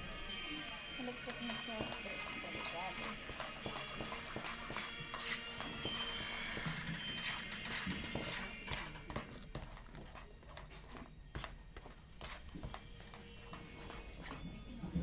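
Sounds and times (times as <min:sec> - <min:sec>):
utensil scraping plastic bowl: 0:01.2 - 0:14.4.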